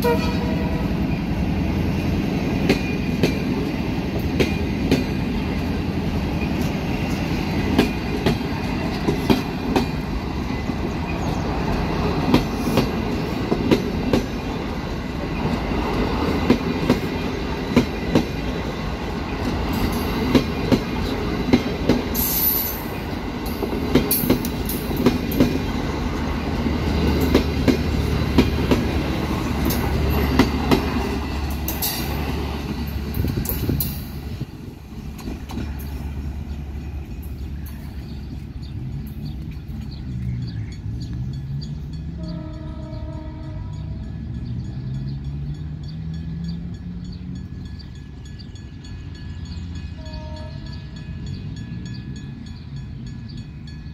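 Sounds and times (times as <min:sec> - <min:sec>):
train rumbling by: 0:00.0 - 0:53.9
wheels clicking over rail joints: 0:01.8 - 0:50.6.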